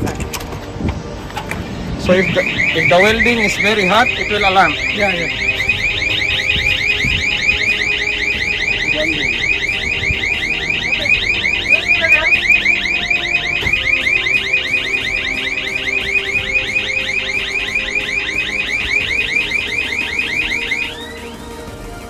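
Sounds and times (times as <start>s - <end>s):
rising electronic whoop alarm: 2.0s - 21.9s.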